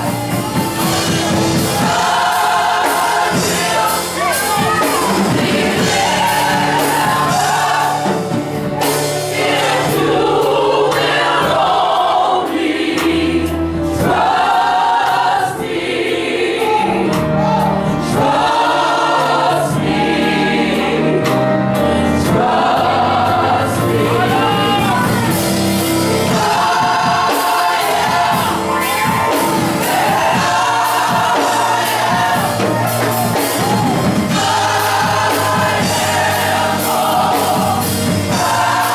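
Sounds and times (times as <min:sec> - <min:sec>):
gospel choir singing: 0:00.0 - 0:38.9
keyboard: 0:00.0 - 0:38.9
percussion: 0:00.0 - 0:38.9.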